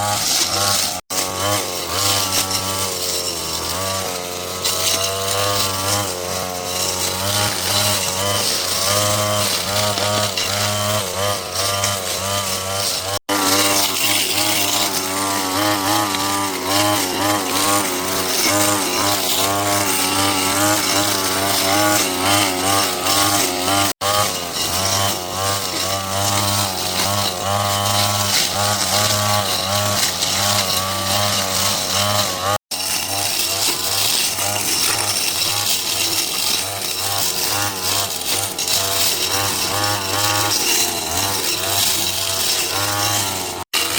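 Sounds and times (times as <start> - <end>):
two-stroke power tool cutting: 0.0 - 43.9.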